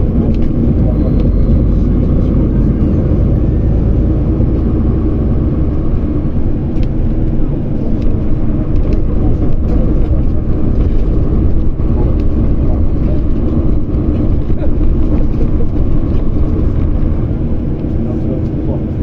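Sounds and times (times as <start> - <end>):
road vehicle rumble: 0.0 - 19.0.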